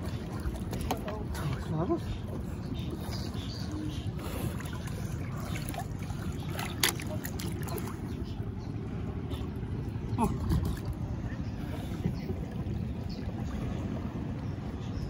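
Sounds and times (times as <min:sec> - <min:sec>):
water sloshing around boat: 0:00.0 - 0:15.0.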